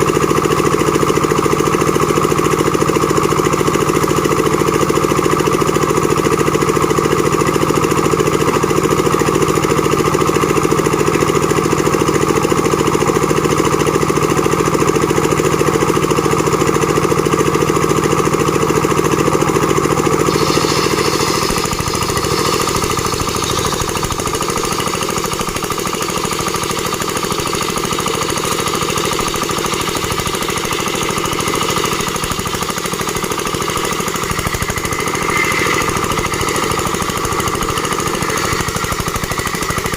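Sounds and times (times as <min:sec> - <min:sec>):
plank-making machine engine running: 0:00.0 - 0:39.9.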